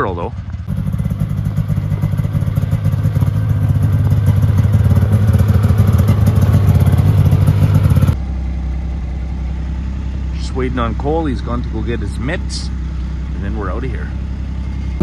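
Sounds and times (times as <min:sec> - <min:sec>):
low engine hum: 0:00.0 - 0:15.0
snowmobile engine pulsing: 0:00.0 - 0:15.0.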